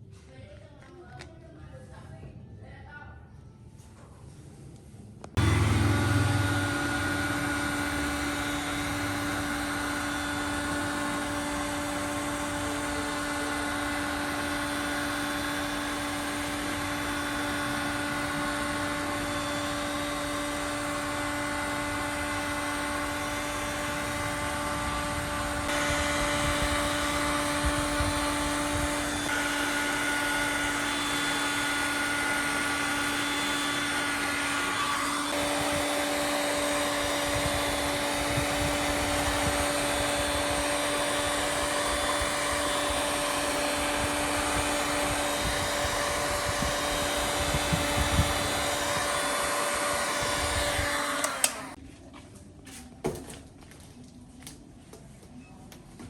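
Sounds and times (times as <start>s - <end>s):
small electric motor whining: 5.4s - 51.8s.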